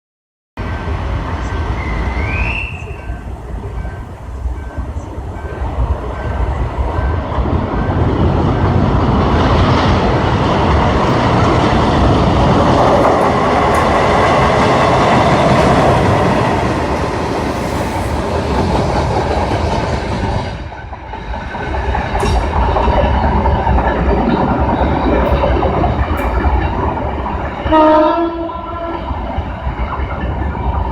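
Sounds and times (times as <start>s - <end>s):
train wheels clickety-clack: 2.0s - 30.9s.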